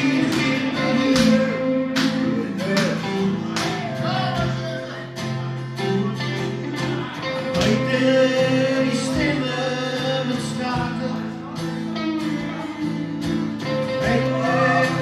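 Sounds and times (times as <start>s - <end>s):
man singing: 0.0s - 5.2s, 5.8s - 15.0s
acoustic guitar: 0.0s - 15.0s
electric guitar: 0.0s - 15.0s.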